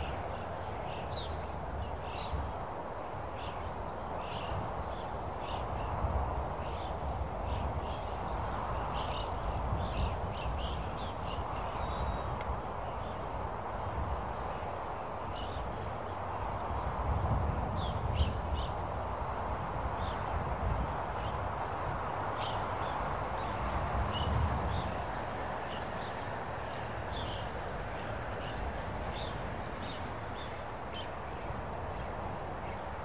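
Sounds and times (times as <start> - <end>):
steady wind noise: 0.0 - 33.0.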